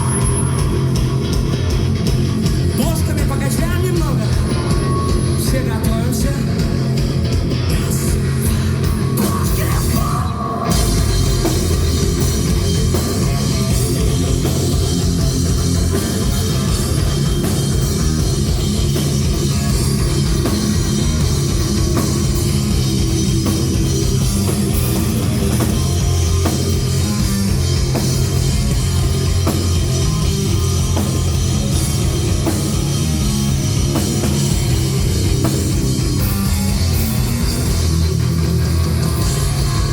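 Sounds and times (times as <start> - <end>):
drum kit: 0.0 - 39.9
guitars: 0.0 - 39.9.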